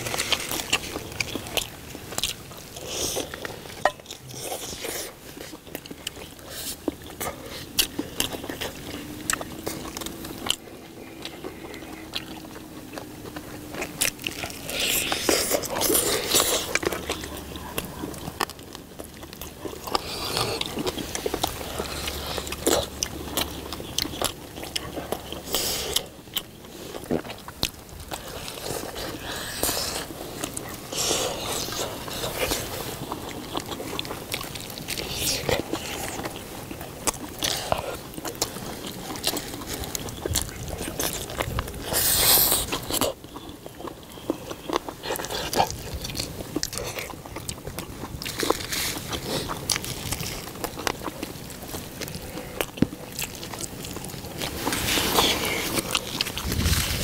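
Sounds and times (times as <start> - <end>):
people biting and chewing food: 0.0 - 57.0
wet mouth sounds: 0.0 - 57.0.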